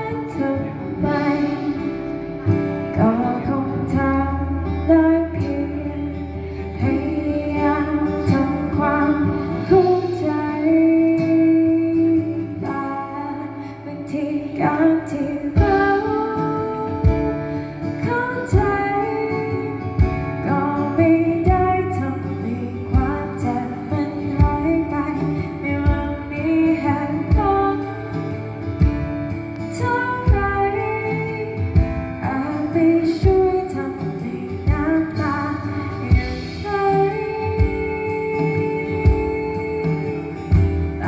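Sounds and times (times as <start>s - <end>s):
acoustic guitar: 0.0s - 41.0s
woman singing: 0.0s - 41.0s.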